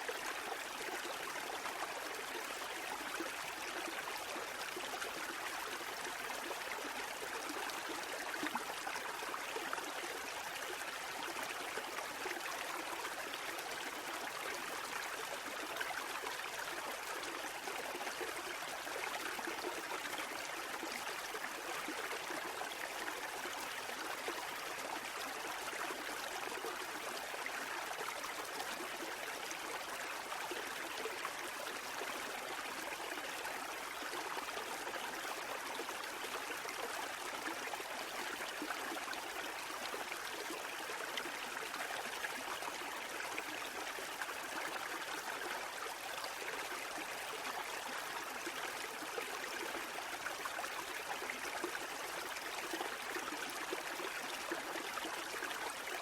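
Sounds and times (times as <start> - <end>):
running water babbling: 0.0 - 56.0.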